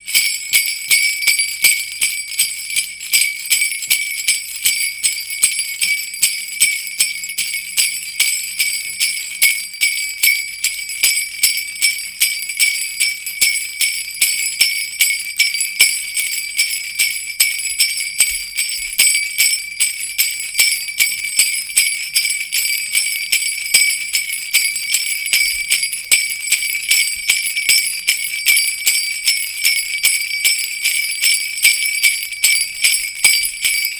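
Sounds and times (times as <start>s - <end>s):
sleigh bells jingling: 0.0s - 33.9s.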